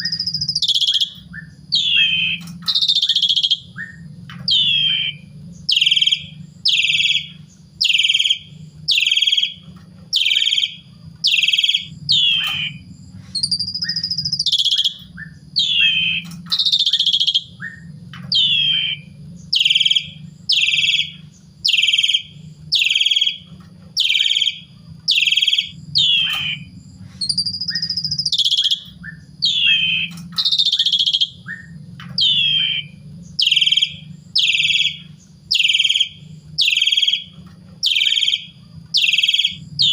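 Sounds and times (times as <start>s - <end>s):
starling calling falling notes: 0.0s - 39.9s
starling rising falling whistles: 0.0s - 39.9s.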